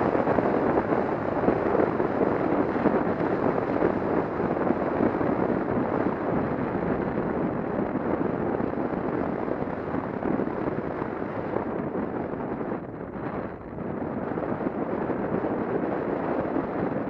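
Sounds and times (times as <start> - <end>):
motorcycle road noise: 0.0 - 17.0
wind buffeting microphone: 0.0 - 17.0.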